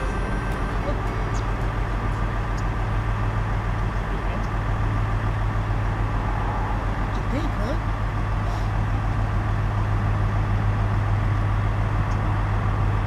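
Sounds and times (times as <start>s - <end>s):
engine hum and road noise: 0.0s - 13.0s.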